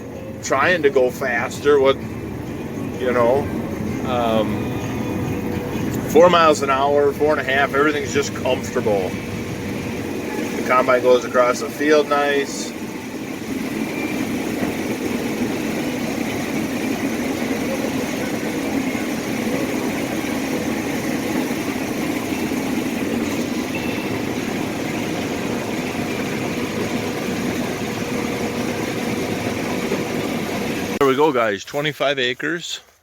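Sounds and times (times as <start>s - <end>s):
combine harvester drone: 0.0s - 31.1s.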